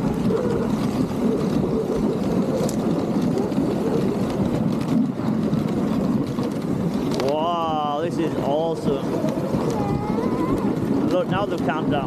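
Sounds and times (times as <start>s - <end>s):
sled runners scraping on snow: 0.0s - 12.0s.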